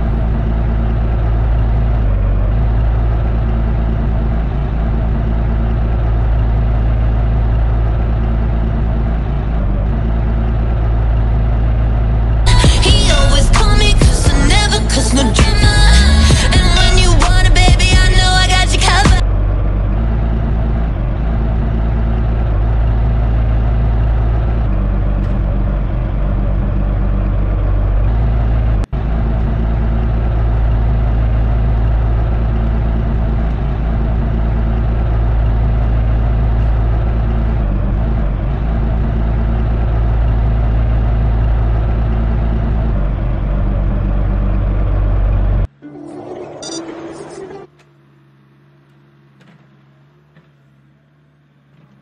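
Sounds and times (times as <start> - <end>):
heavy engine idling: 0.0 - 52.0.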